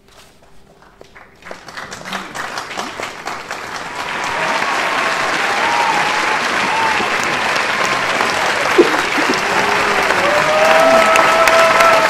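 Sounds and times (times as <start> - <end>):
crowd applause: 1.1 - 12.0
crowd cheering: 1.4 - 12.0.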